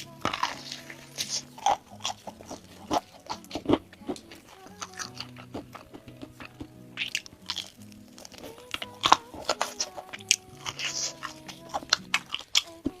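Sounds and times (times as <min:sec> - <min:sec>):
background music with held notes: 0:00.0 - 0:13.0
crunchy chewing of fried food: 0:00.0 - 0:13.0.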